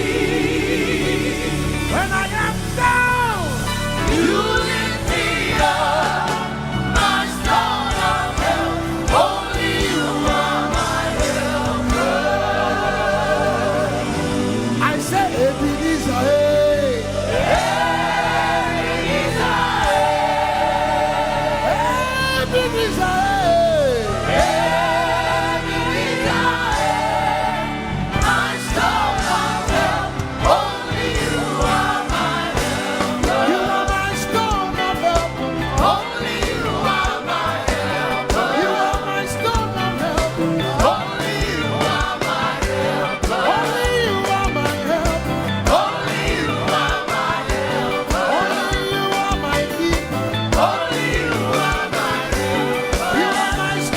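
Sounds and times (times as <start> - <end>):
band with bass and drums: 0.0 - 53.9
choir singing gospel music: 0.0 - 53.9.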